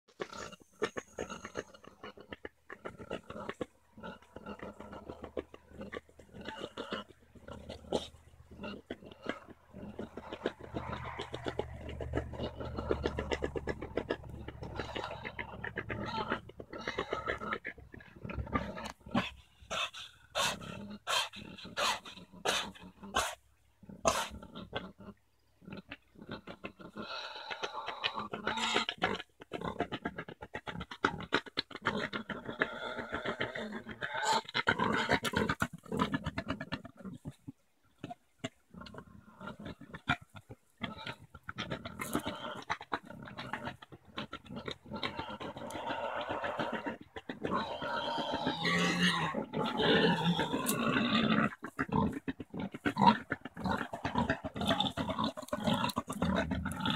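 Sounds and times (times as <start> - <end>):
boar grunting: 0.1 - 56.9.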